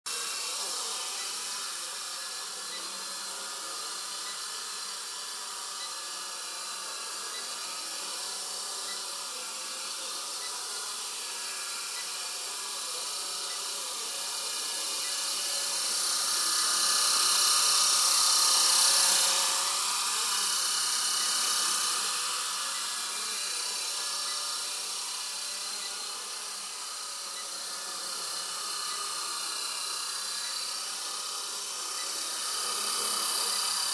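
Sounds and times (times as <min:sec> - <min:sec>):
rc helicopter rotors whining: 0:00.1 - 0:33.9.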